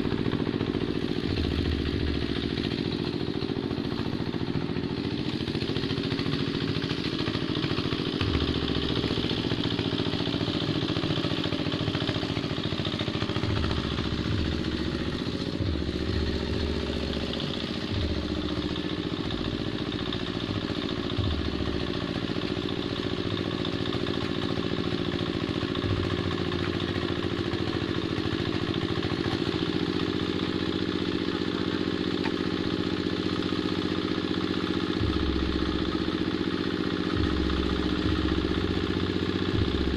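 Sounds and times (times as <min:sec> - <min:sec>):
hand tractor engine running: 0:00.0 - 0:39.9.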